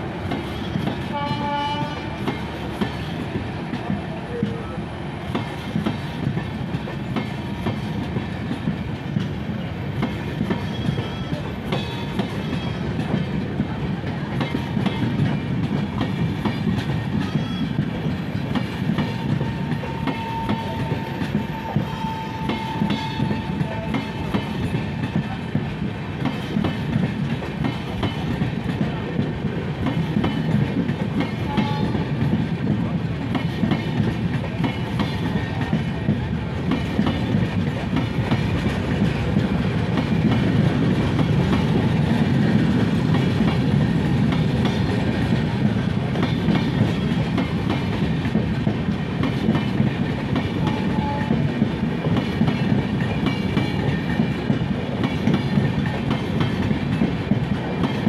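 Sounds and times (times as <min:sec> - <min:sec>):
clickety-clack over rail joints: 0:00.0 - 0:58.0
train wheels rumbling on rails: 0:00.0 - 0:58.0.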